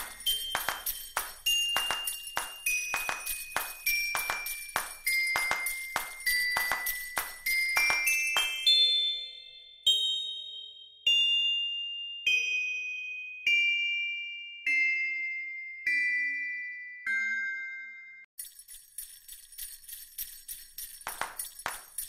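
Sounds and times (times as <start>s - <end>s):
bell-like chime notes: 0.0s - 18.3s.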